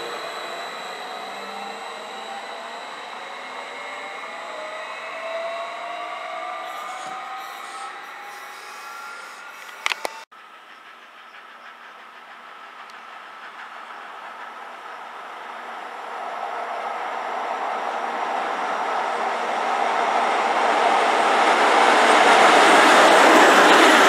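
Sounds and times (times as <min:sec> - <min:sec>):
electric locomotive running: 0:00.0 - 0:16.8, 0:17.8 - 0:24.0.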